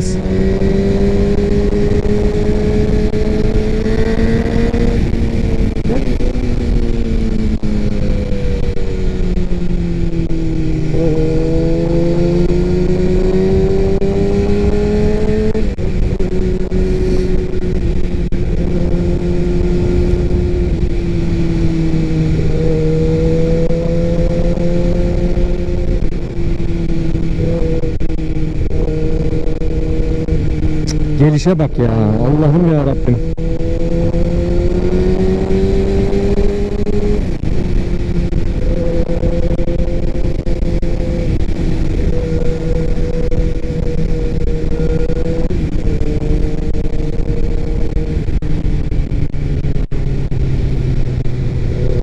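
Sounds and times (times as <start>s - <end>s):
motorcycle engine cruising: 0.0s - 52.0s
wind noise rushing: 0.0s - 52.0s.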